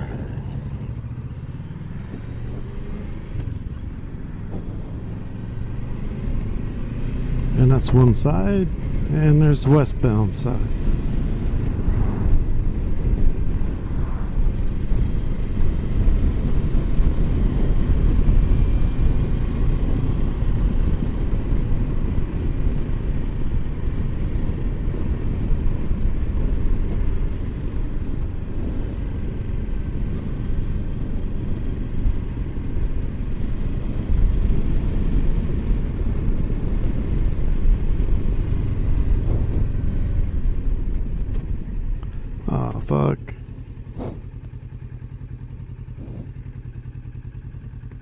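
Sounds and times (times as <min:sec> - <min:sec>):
wind buffeting microphone: 0:00.0 - 0:06.7, 0:10.7 - 0:42.4, 0:43.6 - 0:46.8
motorcycle engine and tyres: 0:00.0 - 0:48.0.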